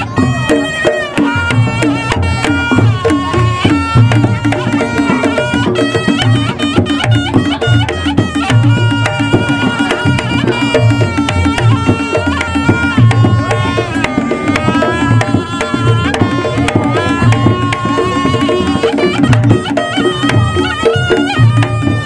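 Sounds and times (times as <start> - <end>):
drums beating fast pattern: 0.0 - 22.0
reed instrument melody: 0.0 - 22.0.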